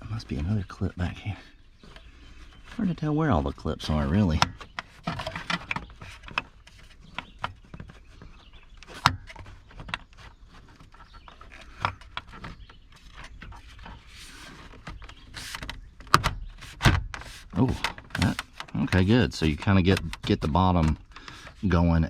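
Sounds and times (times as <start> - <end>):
soft rustle: 0.0 - 3.5, 4.5 - 21.9
plastic trim knocks and clicks: 3.4 - 21.6.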